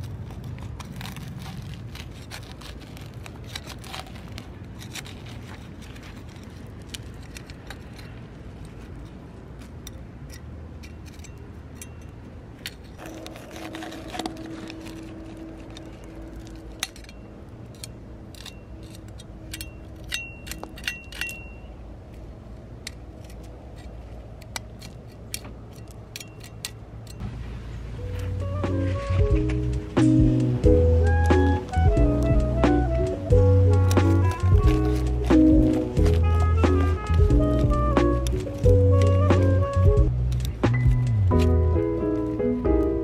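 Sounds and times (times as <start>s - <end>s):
trowel scraping gravel: 0.0s - 21.6s, 28.0s - 43.0s.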